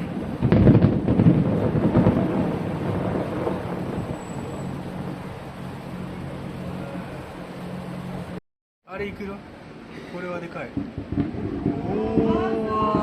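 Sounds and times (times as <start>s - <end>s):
fireworks booms and crackles: 0.0s - 8.3s, 10.6s - 13.0s
fireworks rumble: 0.0s - 13.0s.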